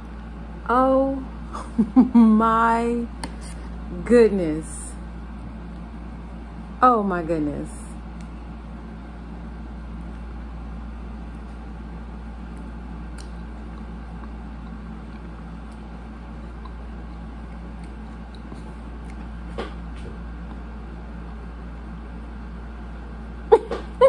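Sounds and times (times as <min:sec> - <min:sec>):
room tone hum and hiss: 0:00.0 - 0:24.0.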